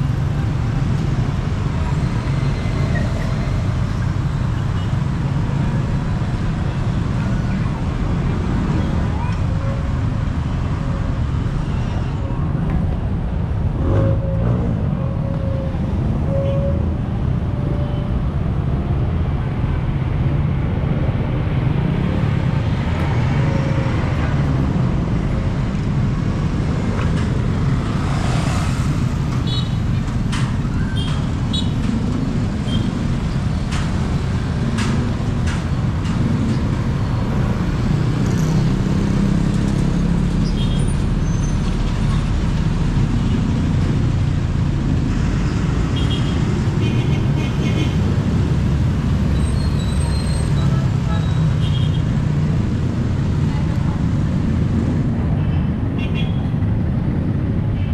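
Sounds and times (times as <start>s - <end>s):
traffic engine rumble: 0.0s - 57.9s.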